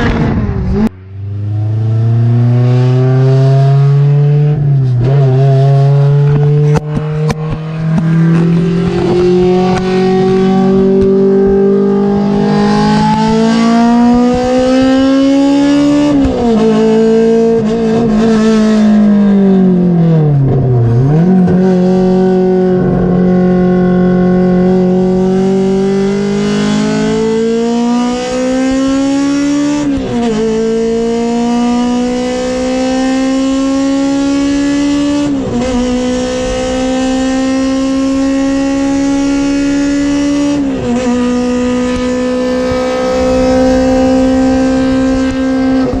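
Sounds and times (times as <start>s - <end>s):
car engine revving high: 0.0s - 46.0s.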